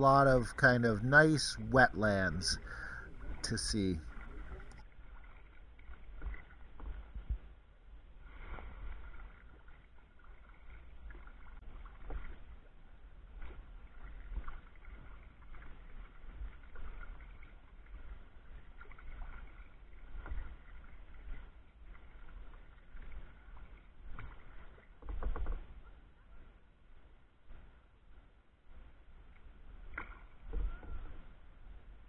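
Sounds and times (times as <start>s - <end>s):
paddle splashing in water: 0.0s - 32.0s.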